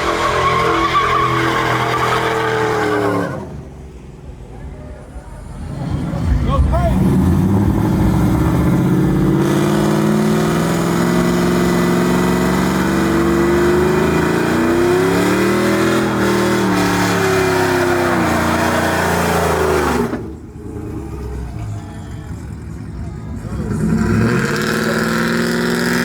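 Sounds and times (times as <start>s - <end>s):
truck engine revving: 0.0s - 4.0s, 5.4s - 26.0s.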